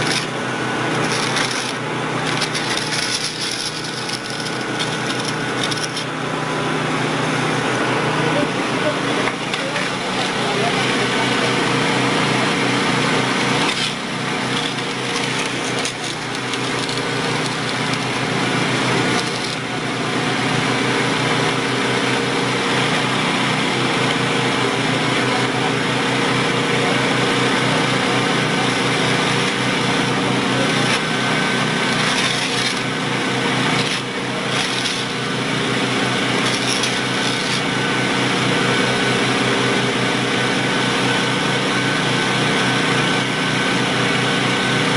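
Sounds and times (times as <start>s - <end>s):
engine-driven machine running: 0.0s - 44.9s.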